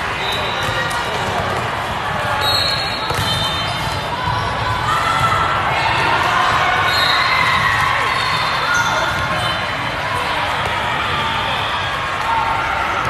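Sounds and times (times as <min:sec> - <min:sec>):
voices chattering and calling: 0:00.0 - 0:12.6
volleyballs bouncing on court: 0:00.3 - 0:12.3.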